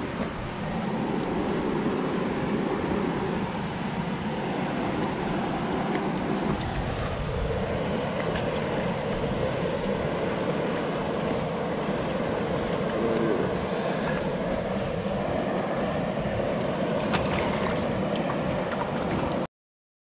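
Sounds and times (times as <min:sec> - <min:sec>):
wind buffeting microphone: 0:00.0 - 0:19.4.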